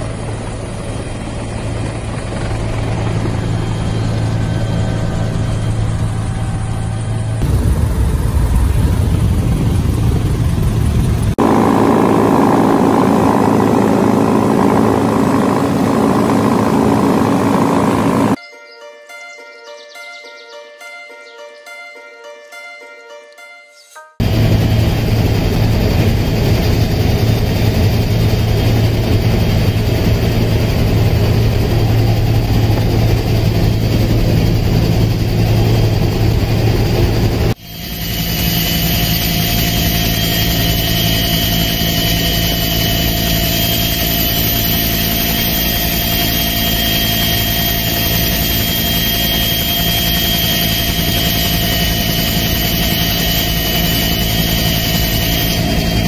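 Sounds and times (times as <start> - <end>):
helicopter engine and rotor drone: 0.0 - 18.4, 24.2 - 56.0
steady whine: 0.2 - 18.4, 24.2 - 56.0.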